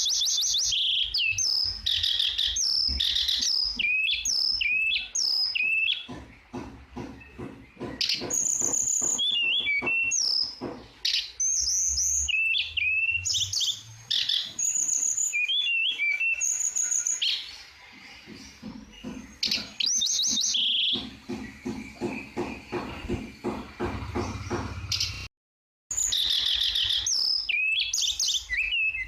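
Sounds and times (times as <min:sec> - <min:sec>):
songbird singing whistles and trills: 0:00.0 - 0:06.2, 0:07.1 - 0:17.7, 0:18.6 - 0:23.6, 0:25.9 - 0:29.0.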